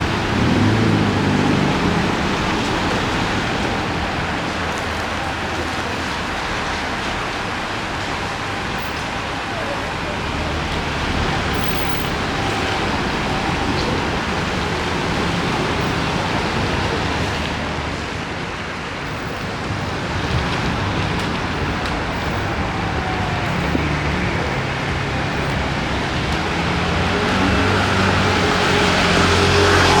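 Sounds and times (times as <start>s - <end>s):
vehicle engine: 0.0s - 8.1s, 9.7s - 30.0s
cars passing: 0.0s - 30.0s.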